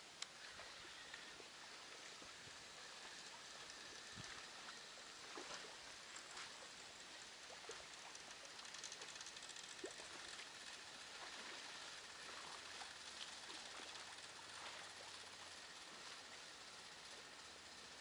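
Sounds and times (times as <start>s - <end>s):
faint low hum: 0.0s - 18.0s
faint outdoor hiss: 0.0s - 18.0s
small ticks: 0.1s - 18.0s.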